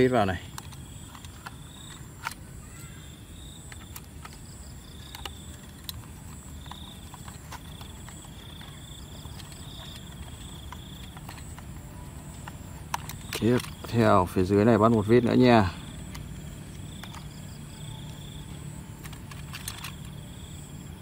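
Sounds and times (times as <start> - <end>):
outdoor background: 0.0 - 21.0.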